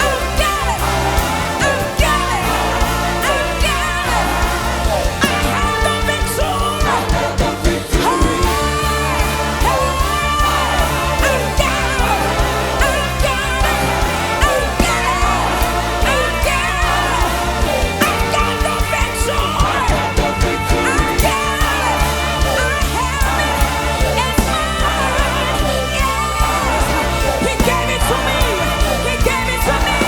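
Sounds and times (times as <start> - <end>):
band with bass and drums: 0.0 - 30.0.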